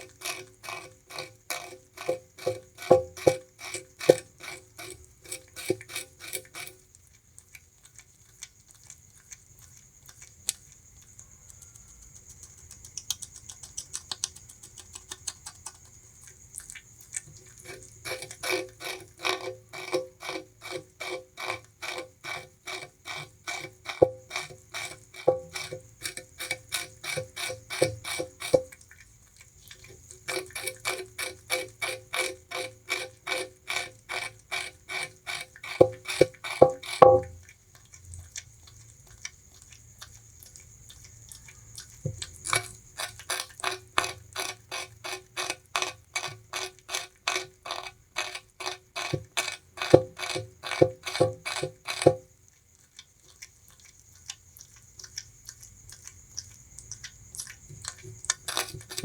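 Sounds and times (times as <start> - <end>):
rat gnawing sugarcane: 0.0 - 59.0.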